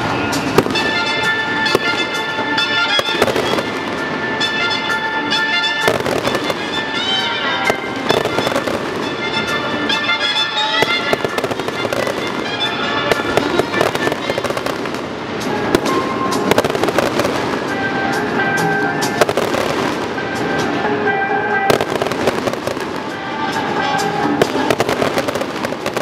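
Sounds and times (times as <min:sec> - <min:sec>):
fireworks bangs and crackling: 0:00.0 - 0:26.0
music playing: 0:00.0 - 0:26.0.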